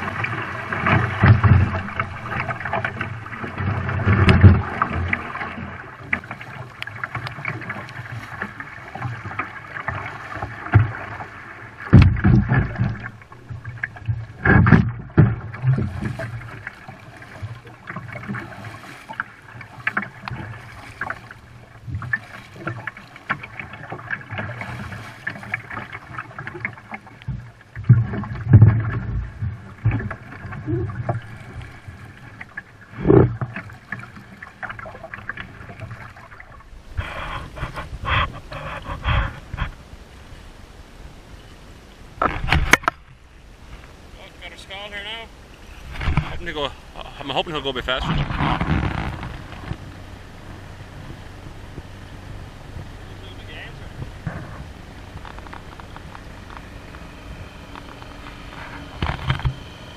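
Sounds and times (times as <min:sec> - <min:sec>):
legs splashing through water: 0:00.0 - 0:39.8, 0:45.5 - 0:59.9.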